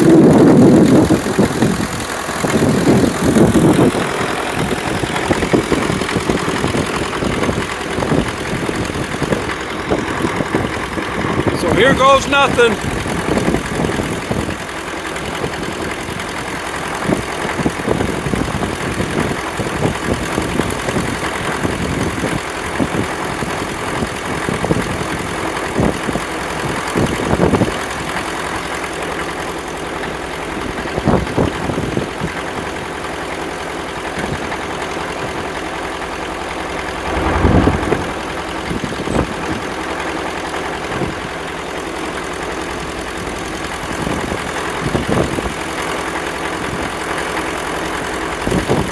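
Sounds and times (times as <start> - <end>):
engine idling with surges: 0.0 - 48.9.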